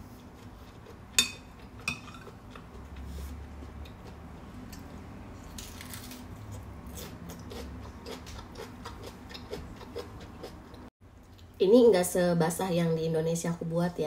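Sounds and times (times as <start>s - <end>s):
person chewing food: 0.2s - 11.5s.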